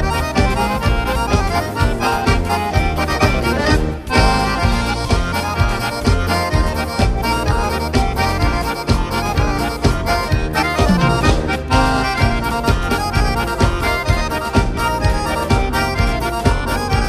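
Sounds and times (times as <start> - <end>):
accordion dance music: 0.0 - 17.0.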